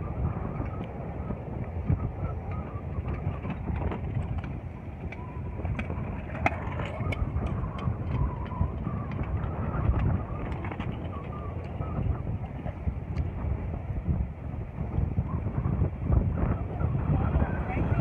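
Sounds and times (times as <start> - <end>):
bicycle rolling on pavement: 0.0 - 18.0
wind rumble on microphone: 0.0 - 18.0.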